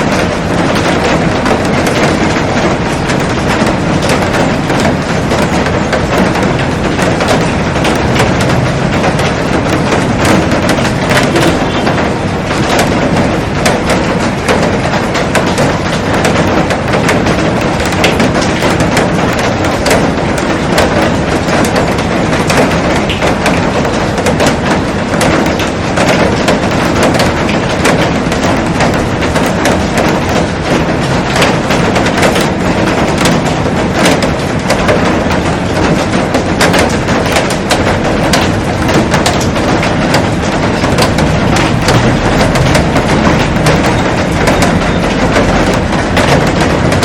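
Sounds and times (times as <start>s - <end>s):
raindrops ticking on glass roof: 0.0s - 47.0s.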